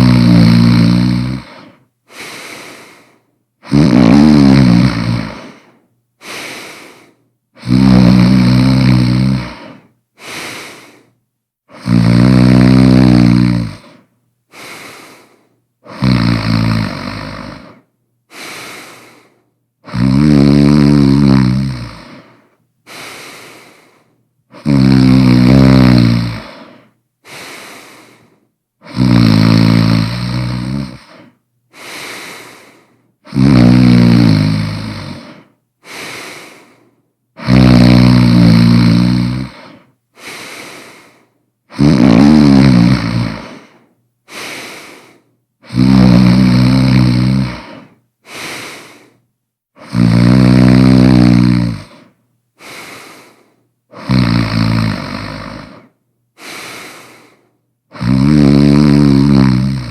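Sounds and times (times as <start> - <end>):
person snoring loudly: 0.0 - 11.1, 11.7 - 49.2, 49.8 - 59.9.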